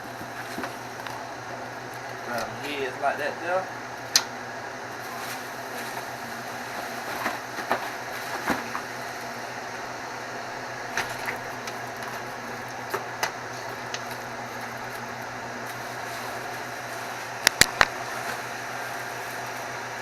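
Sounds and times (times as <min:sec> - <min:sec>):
boiling pot hiss and hum: 0:00.0 - 0:20.0.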